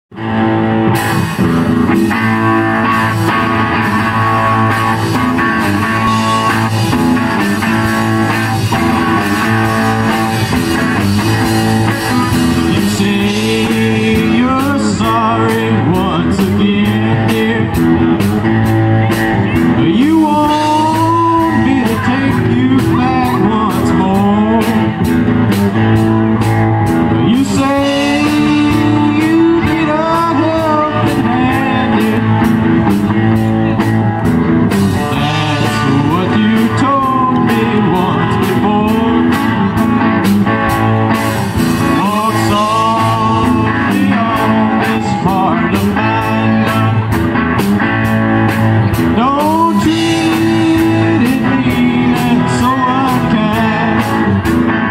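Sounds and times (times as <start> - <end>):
electric guitars: 0.1 - 54.9
male lead vocal: 2.1 - 33.9, 34.8 - 47.2, 48.7 - 54.9.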